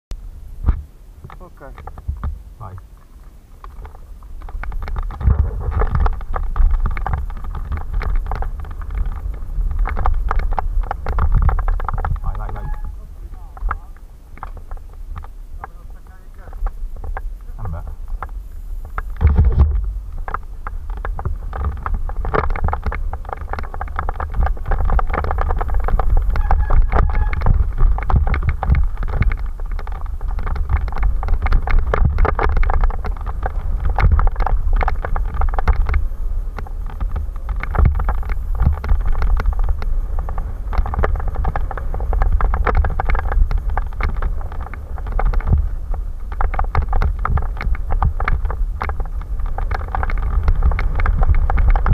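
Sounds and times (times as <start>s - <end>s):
wind buffeting microphone: 0.2s - 51.9s
bike rattles and knocks: 0.6s - 51.9s.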